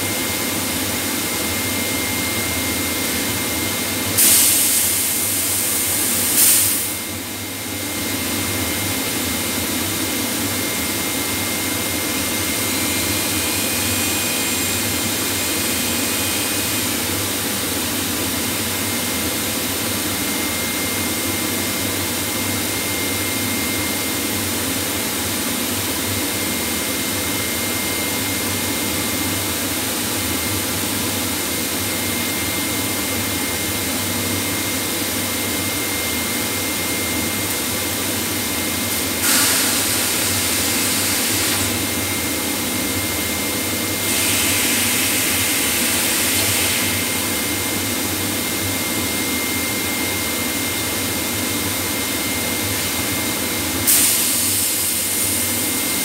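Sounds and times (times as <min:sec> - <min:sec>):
factory machinery roar: 0:00.0 - 0:56.0
high steady whine: 0:00.0 - 0:56.0.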